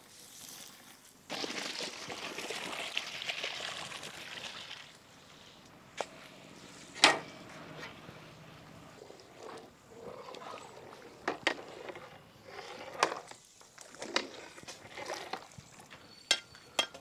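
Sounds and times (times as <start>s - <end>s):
boiling water hissing and bubbling: 0.0s - 17.0s.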